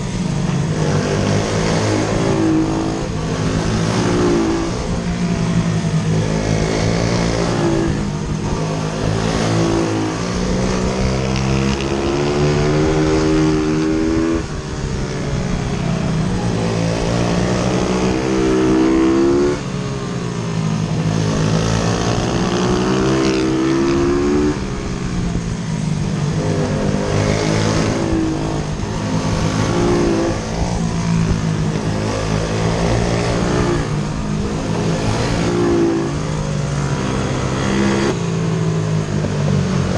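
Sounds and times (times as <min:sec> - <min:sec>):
motorbike engine revving hard: 0:00.6 - 0:19.7, 0:20.8 - 0:25.5, 0:26.1 - 0:38.2.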